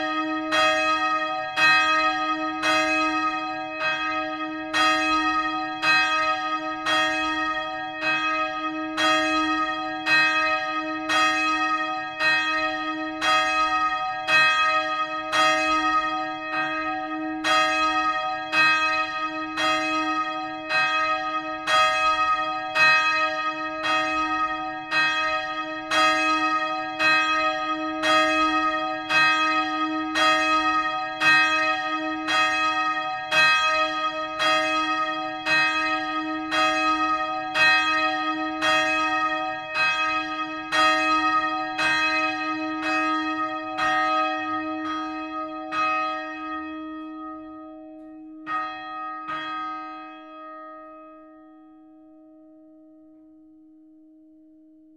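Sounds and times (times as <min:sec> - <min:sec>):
church bell ringing: 0:00.0 - 0:54.4.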